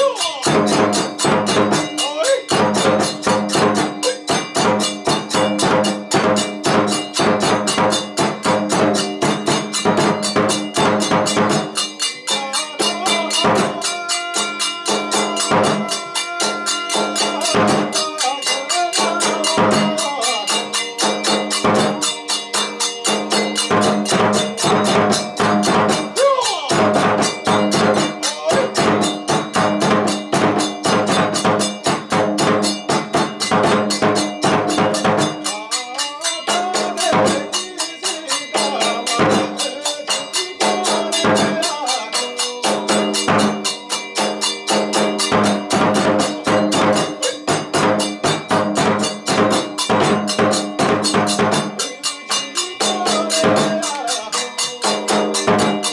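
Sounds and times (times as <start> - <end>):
fast drum strokes: 0.0 - 55.9
ringing hand cymbals: 0.0 - 55.9.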